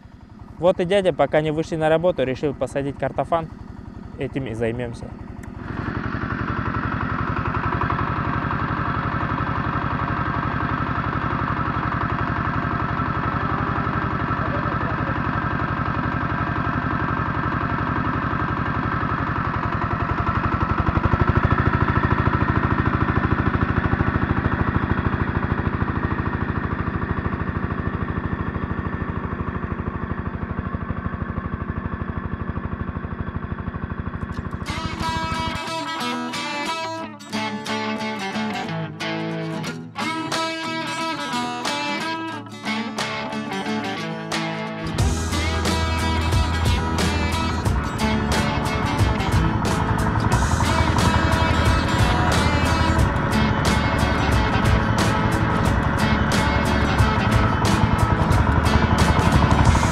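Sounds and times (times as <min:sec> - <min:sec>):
small tractor diesel engine: 0:00.0 - 0:44.0, 0:44.8 - 0:59.9.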